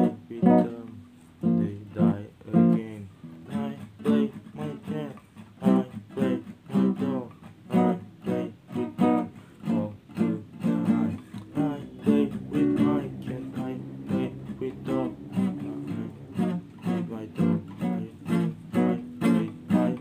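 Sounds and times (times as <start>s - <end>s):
classical guitar strumming: 0.0s - 20.0s
man singing: 0.0s - 20.0s.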